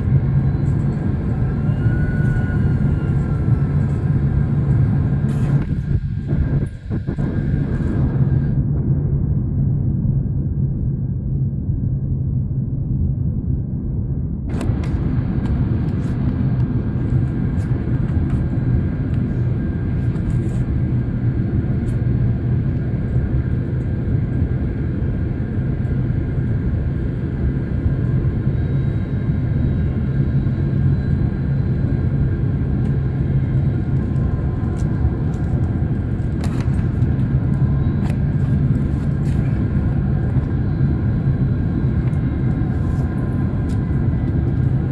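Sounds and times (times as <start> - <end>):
low rumble of engines and airflow: 0.0 - 44.9.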